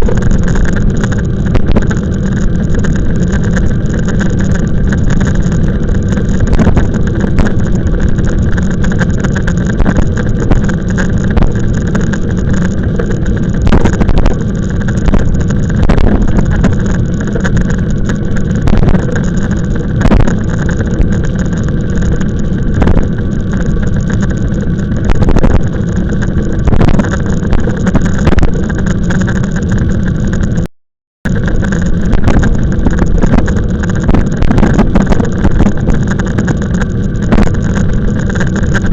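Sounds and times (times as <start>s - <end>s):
rumble and wind noise on microphone: 0.0s - 30.7s, 31.3s - 38.9s.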